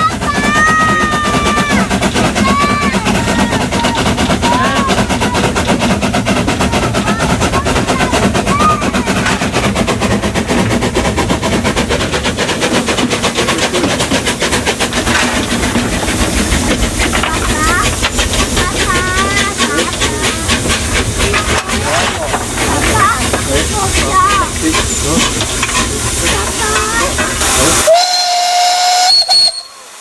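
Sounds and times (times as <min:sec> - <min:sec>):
steam locomotive exhaust chuffing: 0:00.0 - 0:30.0.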